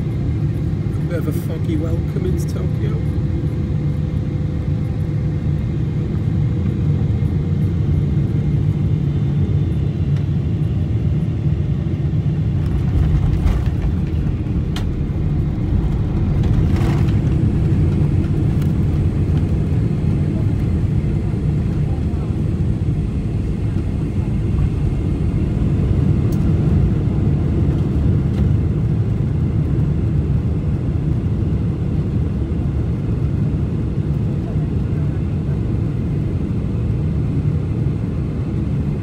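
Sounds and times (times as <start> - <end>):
jet engine cabin rumble: 0.0 - 39.0.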